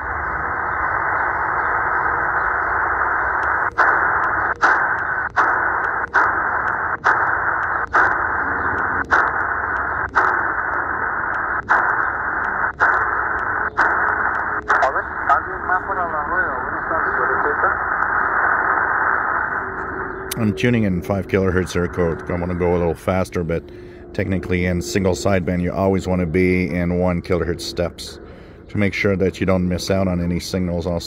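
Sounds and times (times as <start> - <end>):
radio band hiss: 0.0 - 31.0
radio tuning clicks: 0.0 - 31.0.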